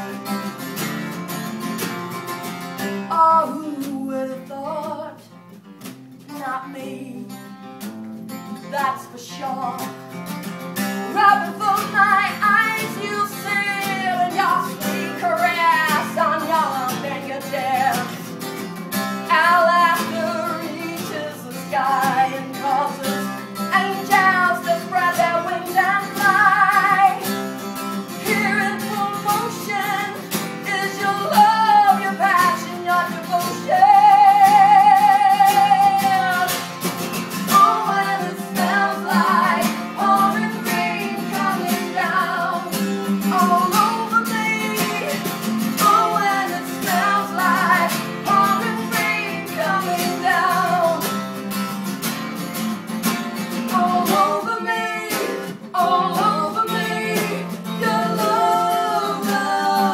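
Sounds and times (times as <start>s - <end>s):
strummed acoustic guitar: 0.0s - 59.9s
woman singing: 3.0s - 5.4s, 6.3s - 7.5s, 8.4s - 10.0s, 11.1s - 18.3s, 19.2s - 27.4s, 28.1s - 36.7s, 37.4s - 51.2s, 53.5s - 59.9s.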